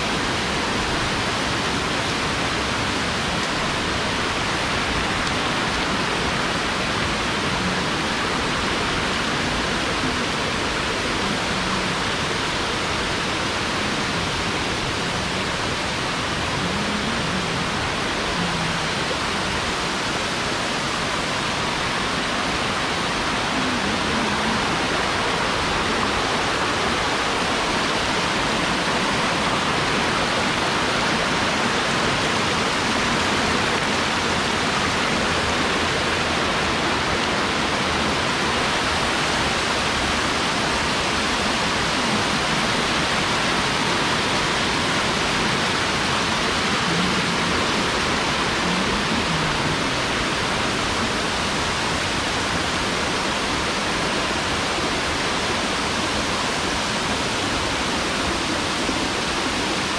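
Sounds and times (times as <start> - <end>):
stream spilling over rocks: 0.0 - 59.9
waterfall rushing: 0.0 - 59.9.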